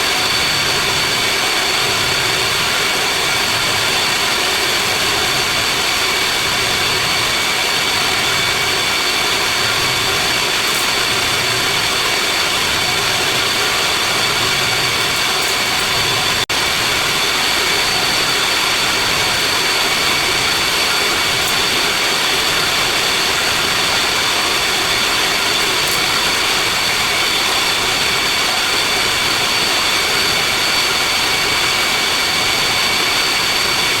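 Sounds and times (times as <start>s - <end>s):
chiller machinery whining and hissing: 0.0s - 34.0s.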